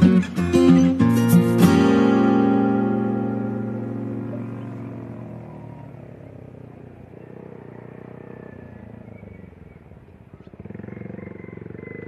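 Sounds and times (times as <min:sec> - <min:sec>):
engine throbbing: 0:00.0 - 0:12.0.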